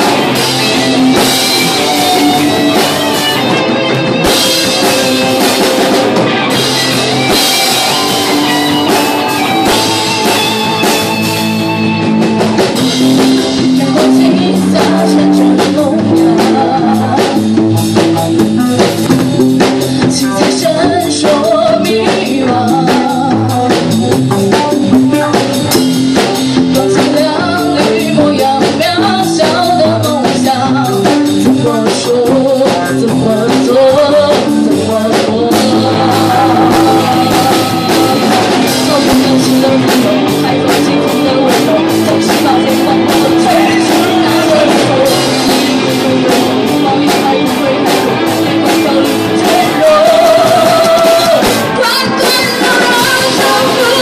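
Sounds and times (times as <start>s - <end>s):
lead singer singing: 0.0s - 54.0s
rock band playing live: 0.0s - 54.0s.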